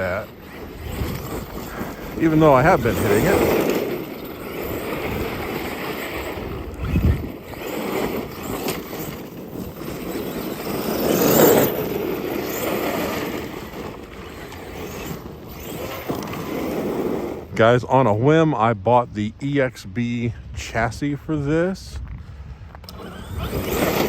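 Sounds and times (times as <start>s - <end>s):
rc truck motor and tyres: 0.0s - 19.0s, 22.0s - 24.0s.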